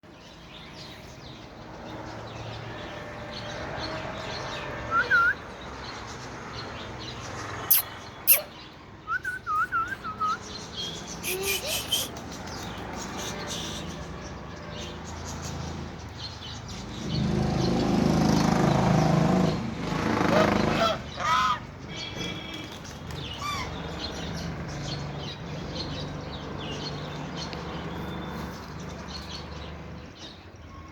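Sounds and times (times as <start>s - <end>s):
birds chirping: 0.1s - 30.9s.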